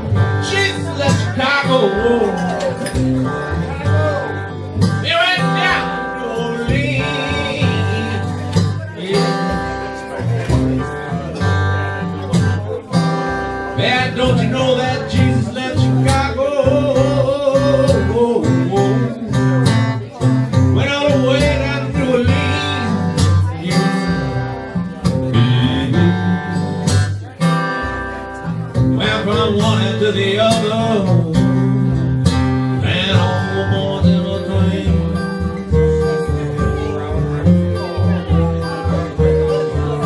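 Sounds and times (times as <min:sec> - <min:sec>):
acoustic guitars playing blues: 0:00.0 - 0:40.0.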